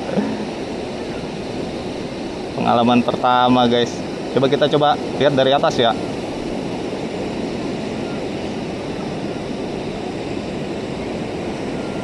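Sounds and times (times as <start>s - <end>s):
ocean surf rushing: 0.0s - 12.0s
wind noise on microphone: 0.0s - 12.0s.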